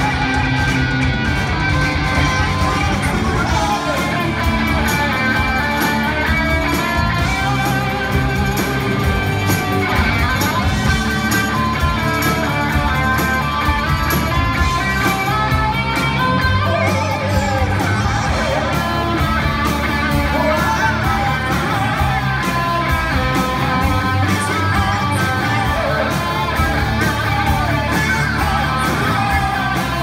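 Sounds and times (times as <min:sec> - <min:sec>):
drum beat: 0:00.0 - 0:30.0
electric guitars: 0:00.0 - 0:30.0.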